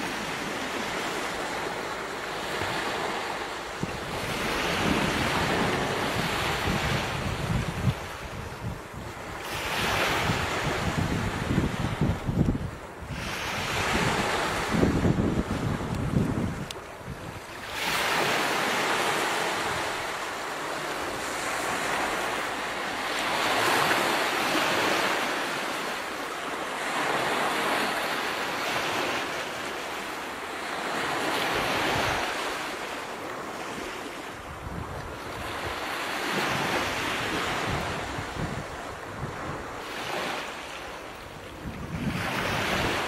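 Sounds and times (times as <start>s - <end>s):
ocean waves washing in: 0.0s - 43.0s.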